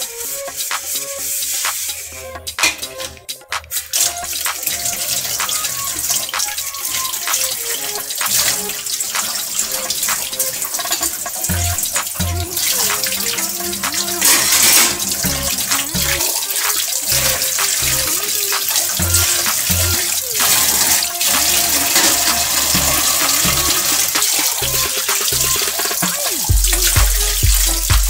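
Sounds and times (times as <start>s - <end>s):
background music with low beat: 0.0s - 28.0s
utensil rinsed by hand: 0.0s - 28.0s.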